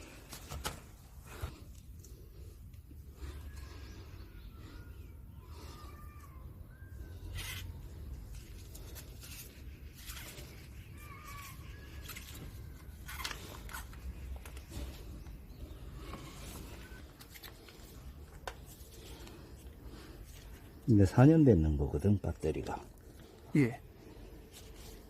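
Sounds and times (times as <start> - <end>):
small birds chirping: 2.2 - 25.0.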